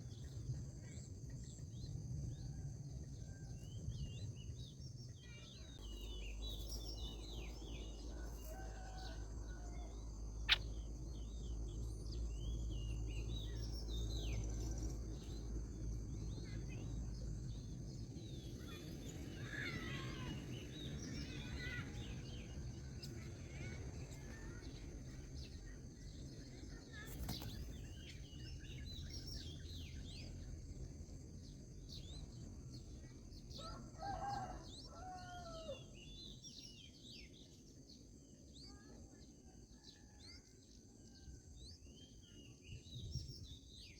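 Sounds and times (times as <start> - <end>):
small birds chirping: 3.3 - 43.9.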